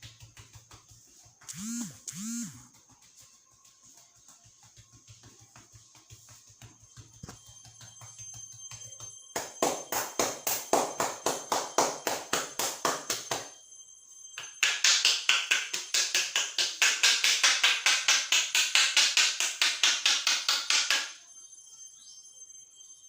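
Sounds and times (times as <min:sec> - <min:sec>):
hands slapping a scalp: 0:00.0 - 0:13.5, 0:14.4 - 0:21.2.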